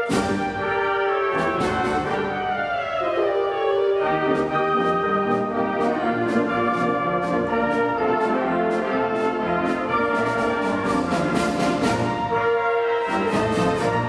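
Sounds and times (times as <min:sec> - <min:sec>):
band playing a march: 0:00.0 - 0:14.0
brass instruments: 0:00.0 - 0:14.0.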